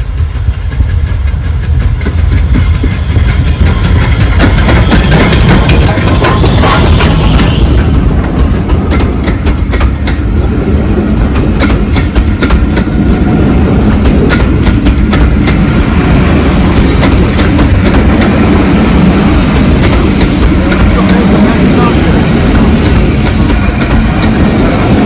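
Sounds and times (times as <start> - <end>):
train rumbling on rails: 0.0 - 25.0
wheels clicking over rail joints: 0.0 - 25.0.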